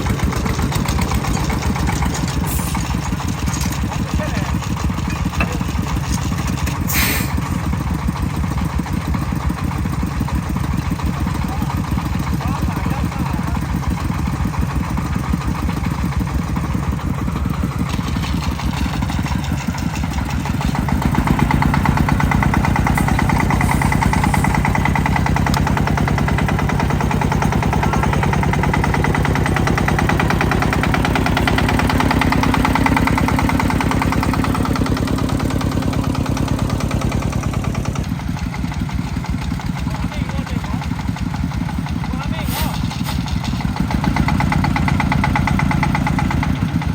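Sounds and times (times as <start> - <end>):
tractor engine chugging: 0.0 - 46.9.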